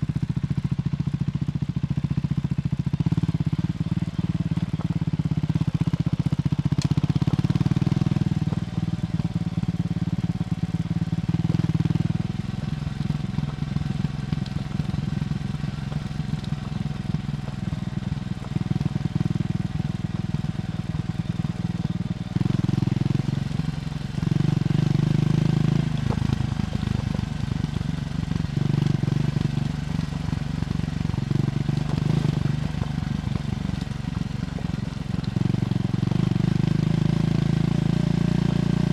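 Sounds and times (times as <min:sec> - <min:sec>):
motorcycle engine revving: 0:02.6 - 0:38.9.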